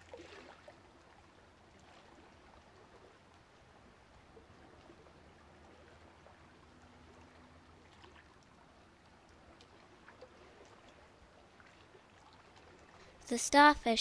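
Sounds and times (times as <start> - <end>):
faint low hum and hiss: 0.0 - 14.0.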